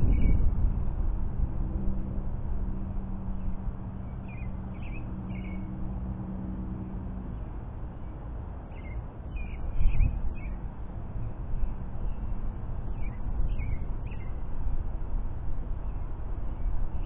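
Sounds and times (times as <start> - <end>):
low hum: 0.0 - 17.0
low steady rumble: 0.0 - 17.0.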